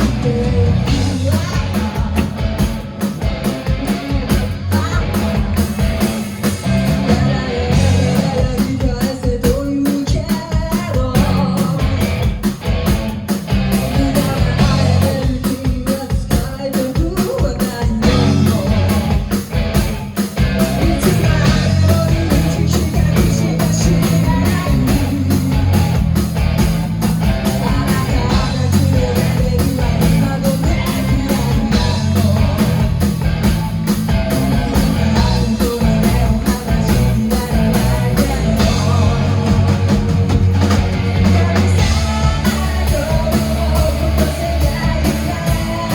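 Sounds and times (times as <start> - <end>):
person singing: 0.0 - 2.8, 3.4 - 5.8, 6.8 - 12.2, 13.8 - 19.3, 20.6 - 26.0, 27.5 - 33.0, 34.8 - 40.3, 41.1 - 45.9
bass guitar: 0.0 - 45.9
electric guitar: 0.0 - 45.9
steady drum beat: 0.0 - 45.9.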